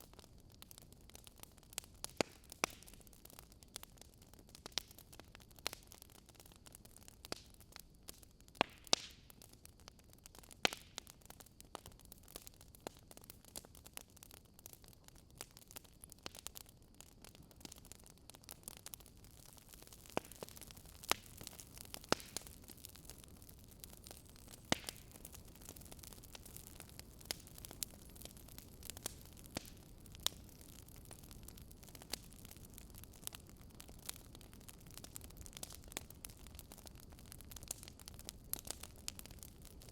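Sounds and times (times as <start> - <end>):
campfire crackling and popping: 0.0 - 39.9
faint steady hiss: 0.0 - 39.9.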